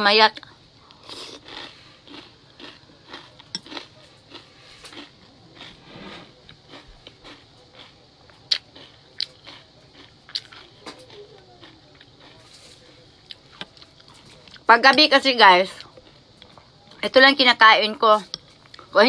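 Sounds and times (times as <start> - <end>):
chewing crunchy cereal: 0.3 - 14.7, 15.6 - 17.2, 18.2 - 19.0.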